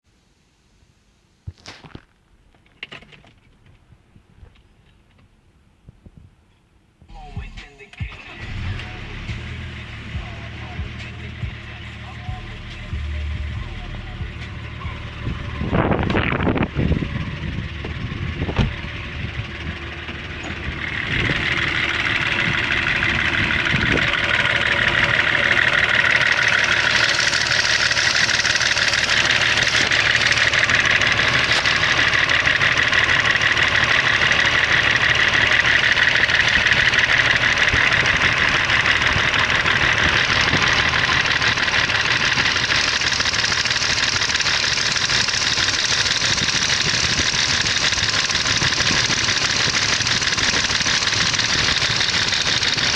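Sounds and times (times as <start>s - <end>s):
diesel engine idling with knock: 7.0s - 52.9s.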